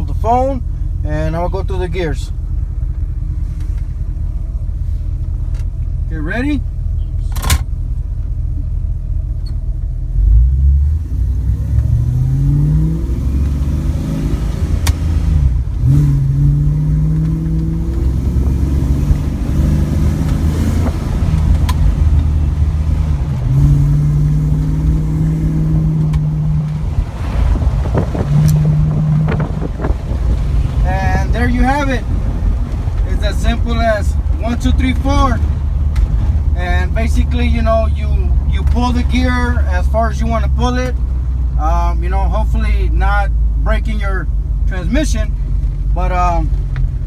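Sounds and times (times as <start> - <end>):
car engine accelerating through gears: 2.3 - 42.1.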